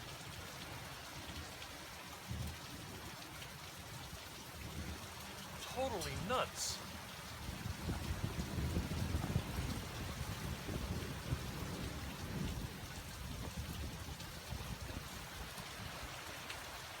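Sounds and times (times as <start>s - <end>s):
heavy rain pouring: 0.6s - 17.0s.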